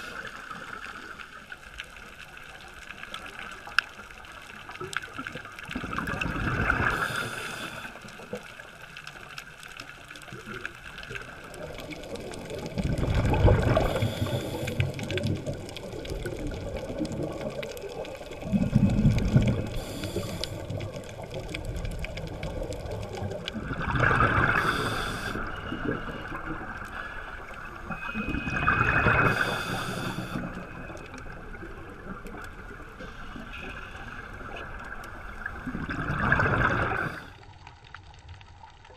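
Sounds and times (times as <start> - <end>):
exhaled bubbles underwater: 0.0 - 38.9
low underwater rushing: 0.0 - 38.9.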